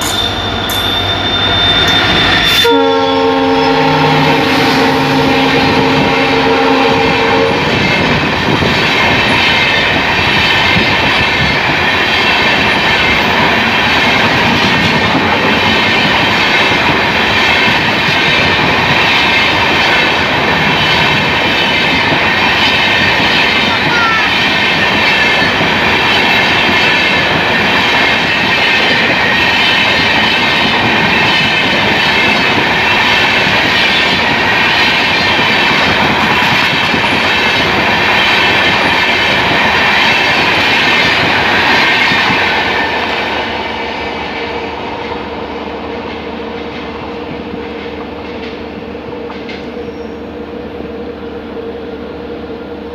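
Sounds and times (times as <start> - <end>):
train wheels clattering on rails: 7.0 - 50.1.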